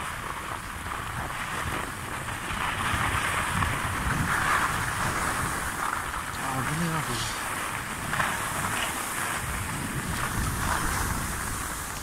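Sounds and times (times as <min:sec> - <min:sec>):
skis hissing over snow: 0:00.0 - 0:12.0
wind on microphone: 0:00.0 - 0:12.0.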